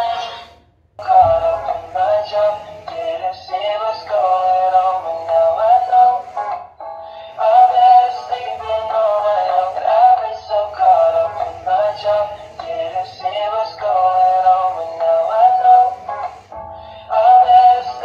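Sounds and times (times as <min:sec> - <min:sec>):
toy playing synthetic singing: 0:00.0 - 0:06.6, 0:07.3 - 0:16.5, 0:17.1 - 0:18.0.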